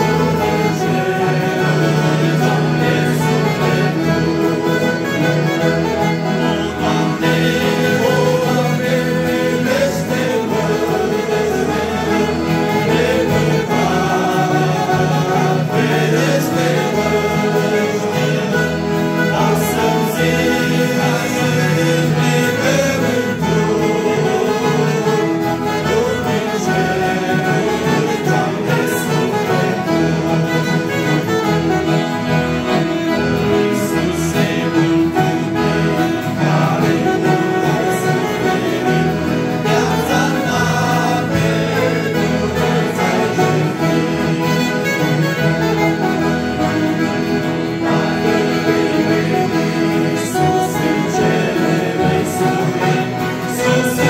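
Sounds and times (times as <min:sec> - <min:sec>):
men singing together: 0:00.0 - 0:32.0, 0:32.7 - 0:45.0, 0:46.9 - 0:54.0
accordions: 0:00.0 - 0:54.0
acoustic guitar: 0:00.0 - 0:54.0
alto saxophone: 0:00.0 - 0:54.0.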